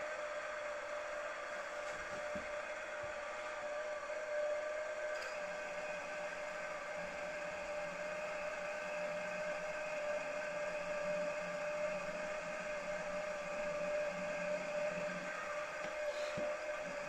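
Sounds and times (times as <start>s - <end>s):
milling machine spindle whine: 0.0s - 17.0s.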